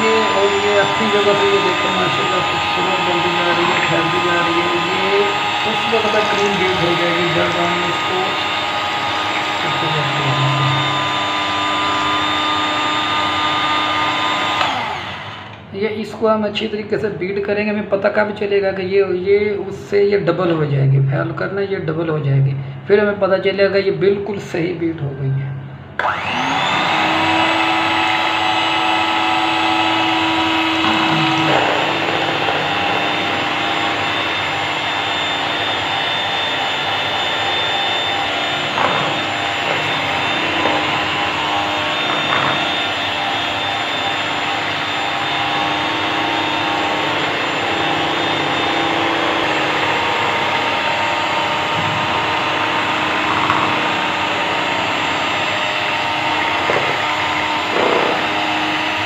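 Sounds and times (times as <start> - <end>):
electric mixer whipping cream: 0.0 - 15.7, 25.9 - 59.0.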